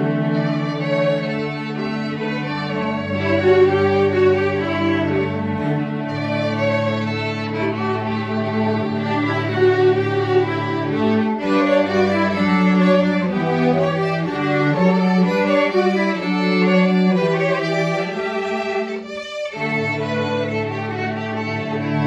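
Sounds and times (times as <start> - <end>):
string ensemble bowing: 0.0 - 22.0.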